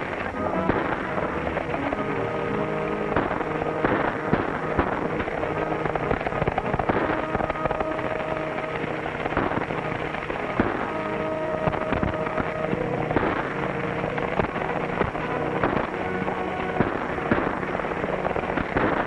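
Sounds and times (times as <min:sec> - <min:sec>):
horses galloping: 0:00.0 - 0:19.0
orchestral film music: 0:00.0 - 0:19.0
sharp cracks: 0:00.0 - 0:19.0.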